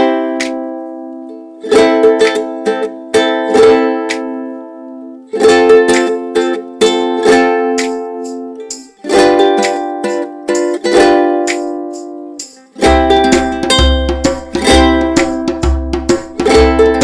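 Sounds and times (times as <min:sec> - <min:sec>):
ukulele strumming bright chords: 0:00.0 - 0:17.0.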